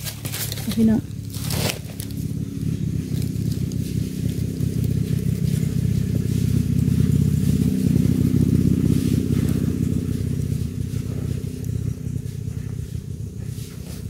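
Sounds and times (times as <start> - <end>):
engine humming: 0.0 - 14.0
gloved hands scratching soil: 0.0 - 14.0.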